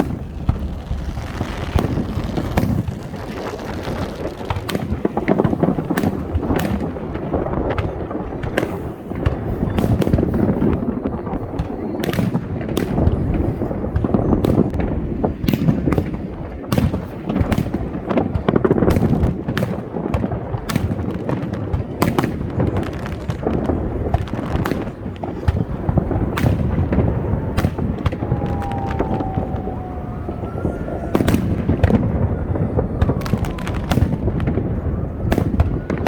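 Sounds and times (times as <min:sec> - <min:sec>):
fireworks booming rumble: 0:00.0 - 0:36.0
fireworks cracks and bangs: 0:00.0 - 0:36.0.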